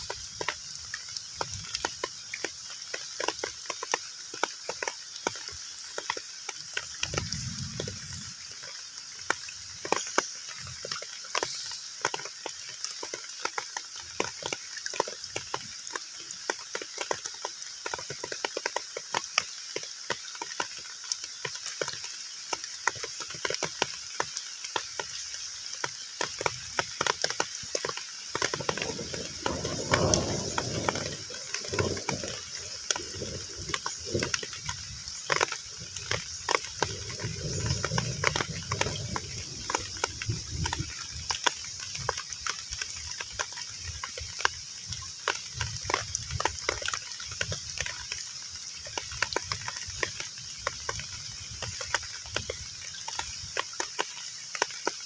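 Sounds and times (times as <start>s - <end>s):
heavy rain on water: 0.0s - 55.0s.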